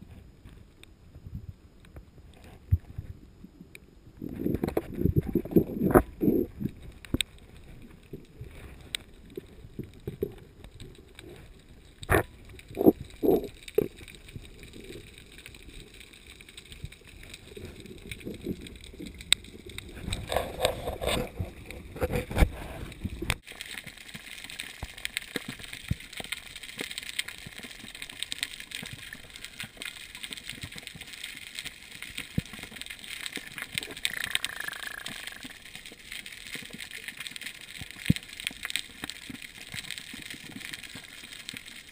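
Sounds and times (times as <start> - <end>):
fine crackling of reef water: 0.0 - 41.9
water movement: 4.2 - 41.9.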